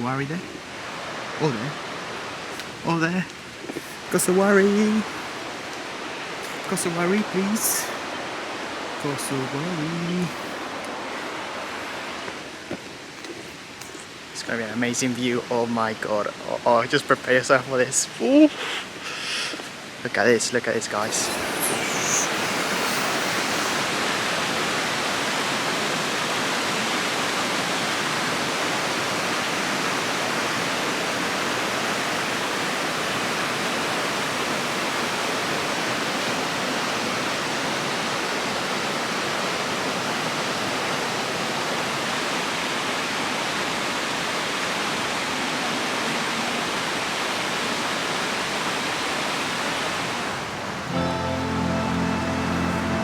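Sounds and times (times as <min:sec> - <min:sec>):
creek rushing over rocks: 0:00.6 - 0:14.7, 0:19.6 - 0:50.9.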